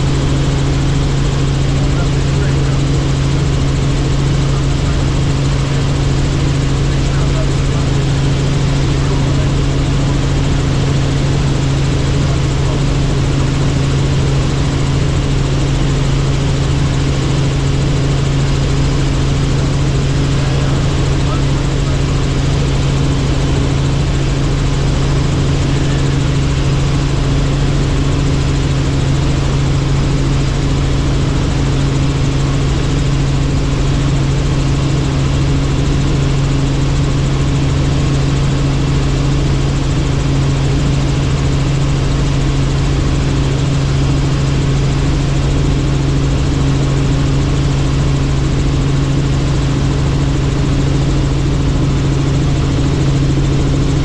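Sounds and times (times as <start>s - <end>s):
helicopter engine and rotors: 0.0s - 54.0s.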